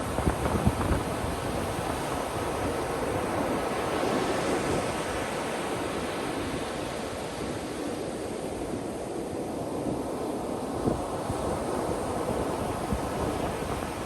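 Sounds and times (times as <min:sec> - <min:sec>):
ocean surf breaking on beach: 0:00.0 - 0:14.0.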